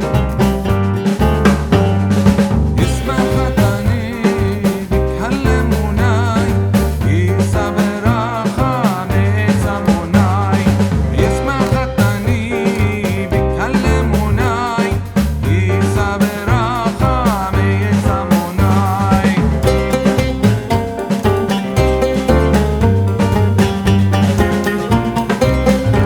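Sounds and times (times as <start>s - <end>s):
background music with beat: 0.0s - 26.0s.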